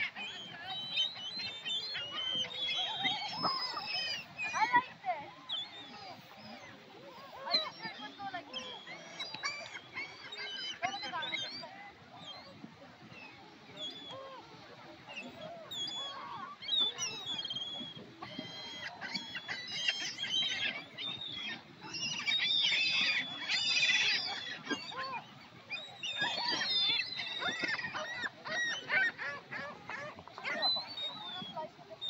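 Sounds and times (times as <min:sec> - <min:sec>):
gulls squawking: 0:00.0 - 0:32.0.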